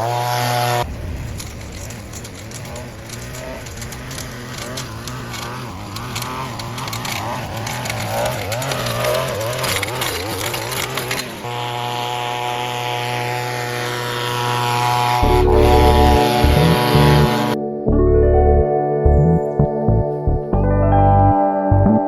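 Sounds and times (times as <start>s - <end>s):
small petrol engine running: 0.0s - 21.3s.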